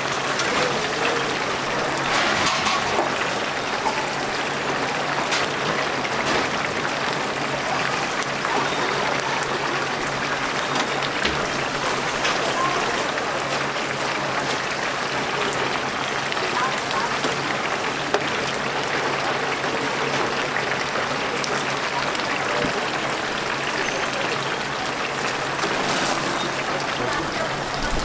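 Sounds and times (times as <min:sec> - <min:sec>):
oil sizzling and bubbling: 0:00.0 - 0:28.0.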